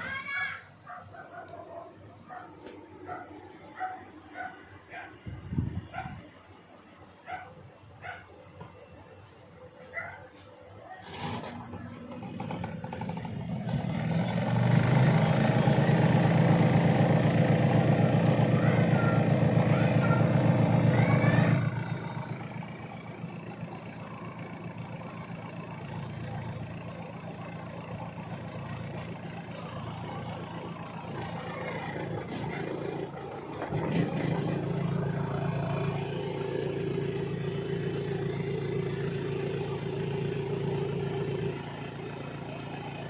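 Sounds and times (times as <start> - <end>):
washing machine motor humming: 0.0 - 6.5, 7.2 - 43.0.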